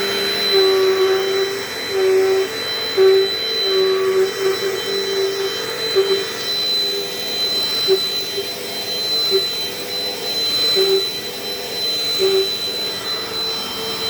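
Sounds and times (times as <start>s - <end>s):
upright vacuum cleaner running: 0.0s - 14.0s.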